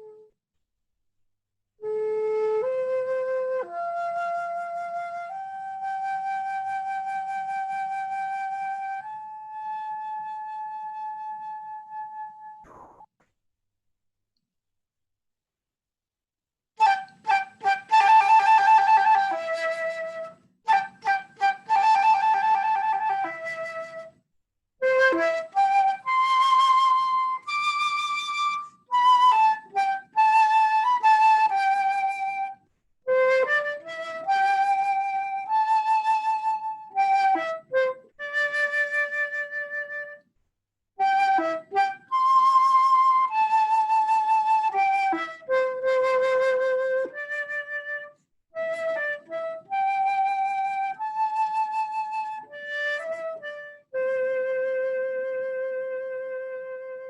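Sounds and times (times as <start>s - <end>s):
solo flute melody: 0.0s - 0.4s, 1.8s - 13.1s, 16.8s - 24.2s, 24.8s - 40.3s, 41.0s - 57.0s.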